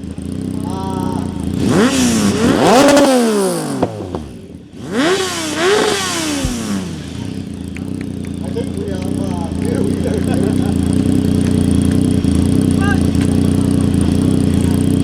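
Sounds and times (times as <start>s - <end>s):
exhaust cracks: 0.0s - 15.0s
motorcycle engine revving: 0.0s - 15.0s.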